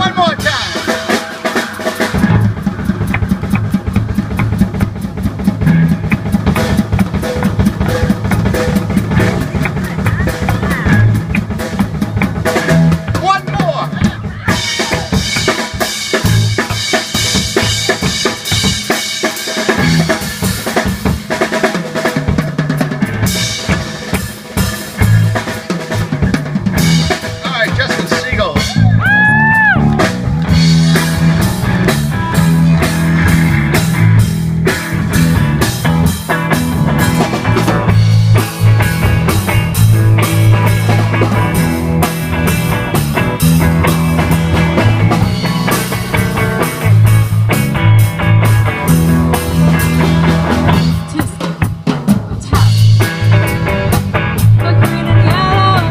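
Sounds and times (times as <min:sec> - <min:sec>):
drum kit playing: 0:00.0 - 0:55.9.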